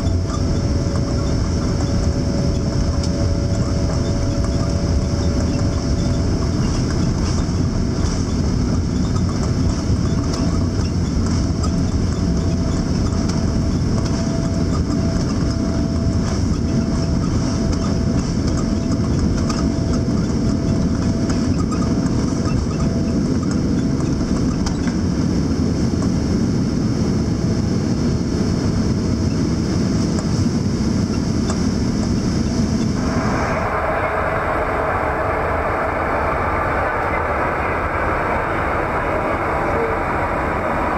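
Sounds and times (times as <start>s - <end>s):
jet engines rumbling in cabin: 0.0s - 40.9s.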